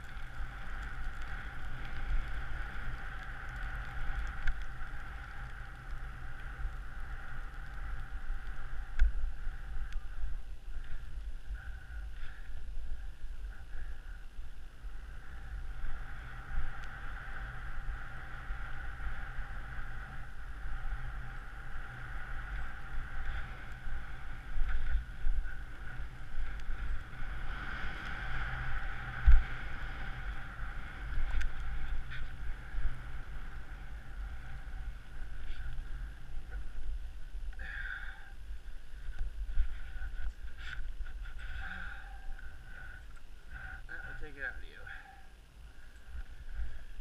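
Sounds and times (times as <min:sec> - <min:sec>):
wind rumble on microphone: 0:00.0 - 0:47.0.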